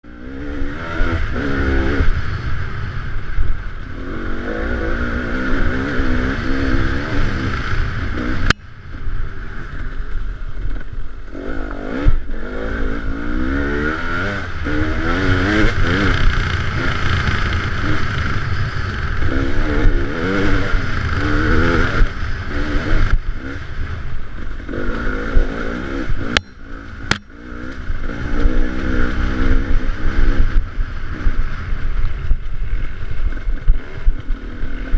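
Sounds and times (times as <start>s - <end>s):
off-road vehicle engine revving: 0.0s - 2.3s, 3.9s - 10.0s, 11.3s - 32.0s.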